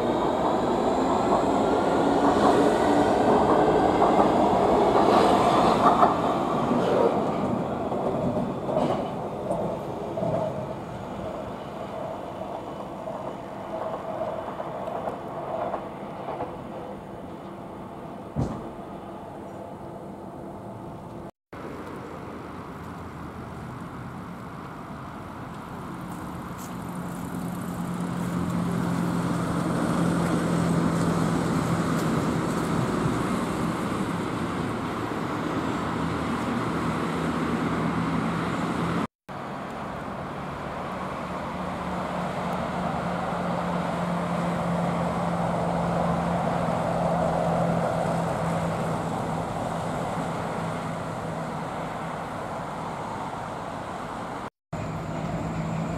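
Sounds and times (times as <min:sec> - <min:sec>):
traffic noise: 0:00.0 - 0:55.9.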